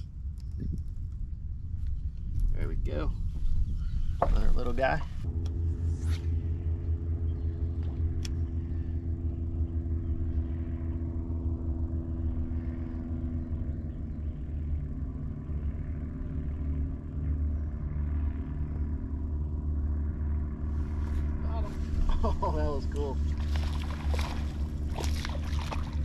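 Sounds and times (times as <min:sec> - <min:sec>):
boat motor humming: 0:03.2 - 0:26.0.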